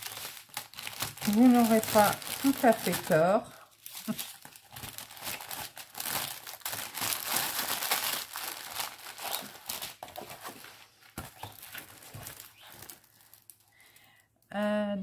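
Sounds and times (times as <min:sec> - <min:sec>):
plastic packaging crinkling: 0:00.0 - 0:14.3.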